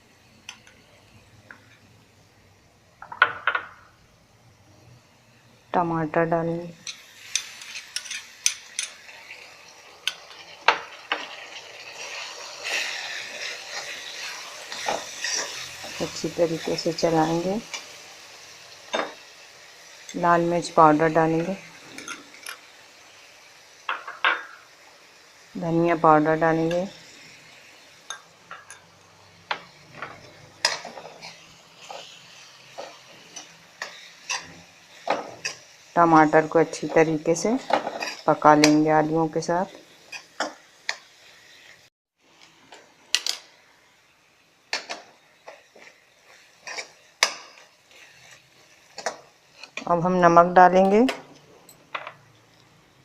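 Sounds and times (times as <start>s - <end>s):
oil sizzling in a pan: 0.0s - 53.0s.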